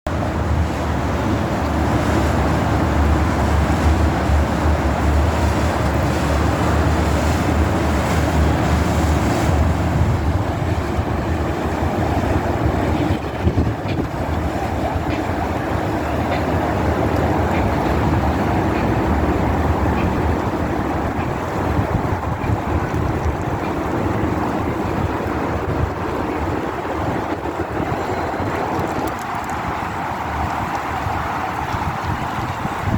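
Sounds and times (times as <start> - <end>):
motorboat engine drone: 0.1 - 32.9
water noise: 0.1 - 32.9
wind noise: 0.1 - 32.9.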